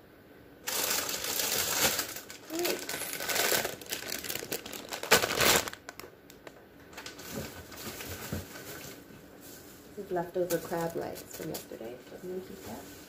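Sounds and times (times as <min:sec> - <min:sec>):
plastic packaging crinkling: 0:00.7 - 0:09.1, 0:10.2 - 0:13.0.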